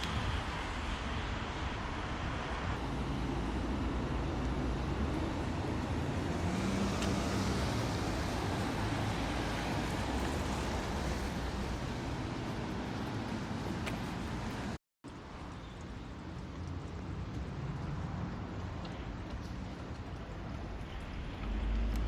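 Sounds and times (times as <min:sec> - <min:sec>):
car tyres and engine rumble: 0:00.0 - 0:22.0.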